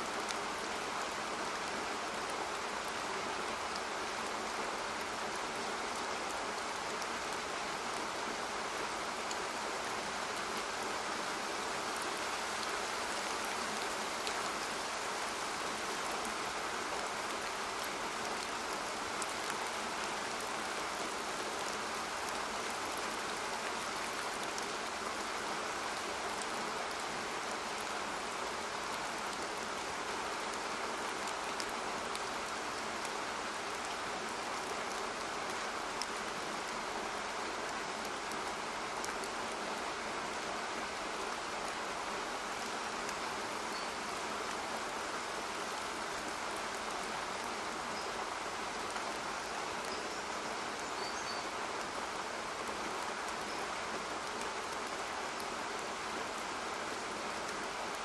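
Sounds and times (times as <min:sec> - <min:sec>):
steady water noise: 0:00.0 - 0:58.0.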